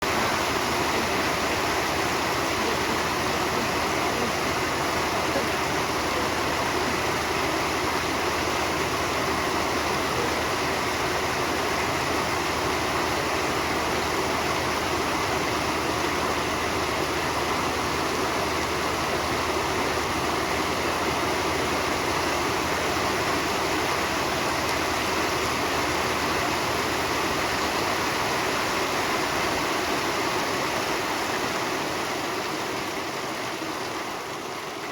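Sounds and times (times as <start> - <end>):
heavy rain on a metal roof: 0.0 - 34.9.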